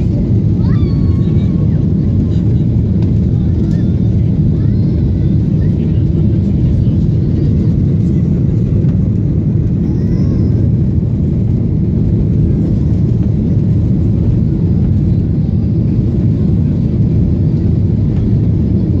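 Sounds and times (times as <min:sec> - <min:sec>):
airliner low rumble: 0:00.0 - 0:19.0.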